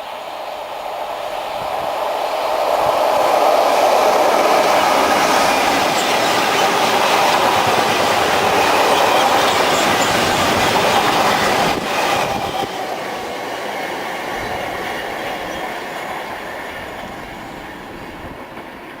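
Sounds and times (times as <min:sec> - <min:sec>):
freight wagons rolling on rails: 0:01.6 - 0:19.0.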